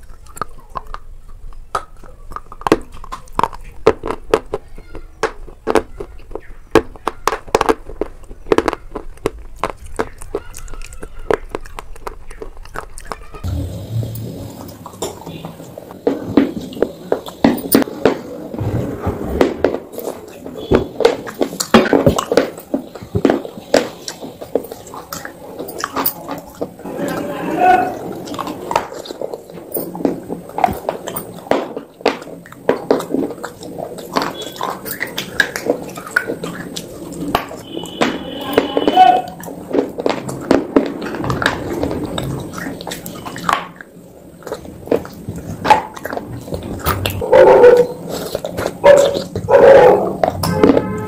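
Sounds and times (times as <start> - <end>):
crunching and chewing dry food: 0.0 - 18.6, 19.4 - 51.0.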